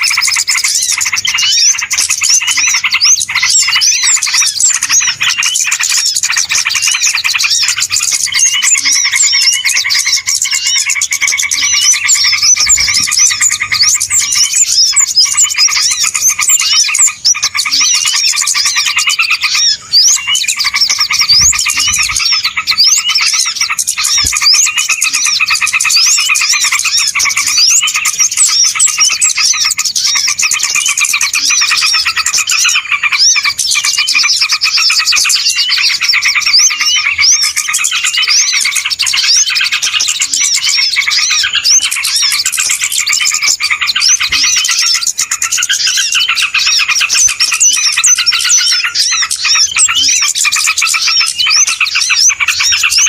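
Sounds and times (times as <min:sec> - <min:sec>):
flock of small birds chirping: 0:00.0 - 0:53.0.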